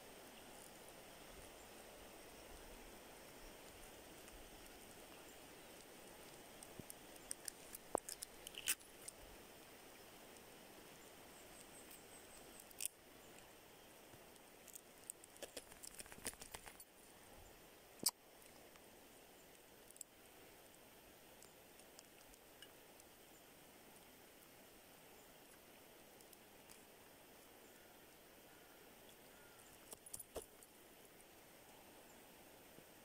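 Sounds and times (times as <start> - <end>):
faint steady hiss: 0.0 - 33.0.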